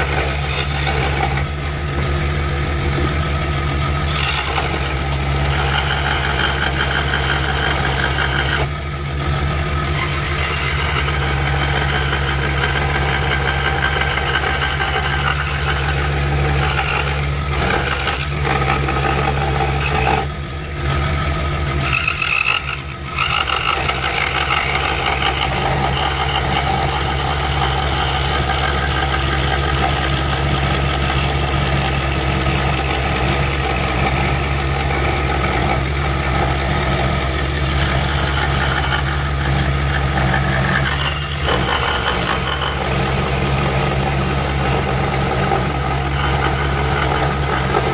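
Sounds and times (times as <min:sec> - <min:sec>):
scroll saw cutting plywood: 0:00.0 - 0:47.9.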